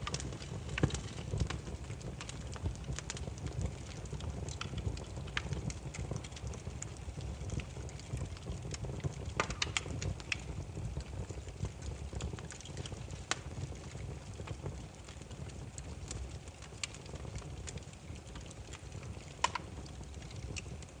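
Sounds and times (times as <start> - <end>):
firewood crackling and popping: 0.0 - 21.0
low rumble of flame: 0.0 - 21.0.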